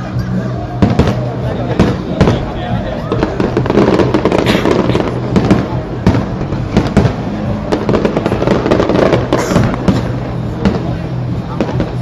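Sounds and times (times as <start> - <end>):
fireworks bangs and crackles: 0.0 - 12.0
steady low rumble: 0.0 - 12.0.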